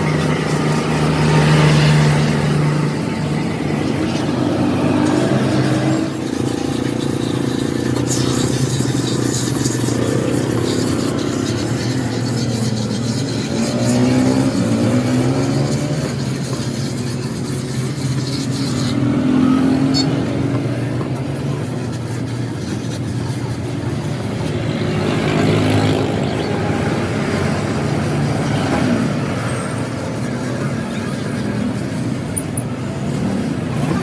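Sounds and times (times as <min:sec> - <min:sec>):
motor vehicle engine running: 0:00.0 - 0:34.0.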